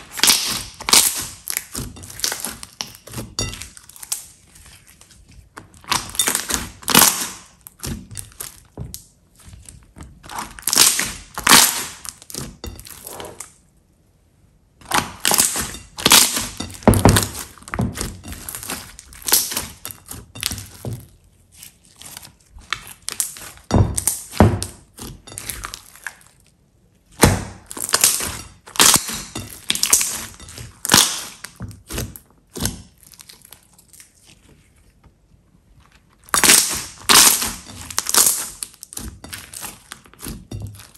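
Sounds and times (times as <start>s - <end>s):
slime squelching: 0.0s - 13.8s, 14.7s - 40.9s.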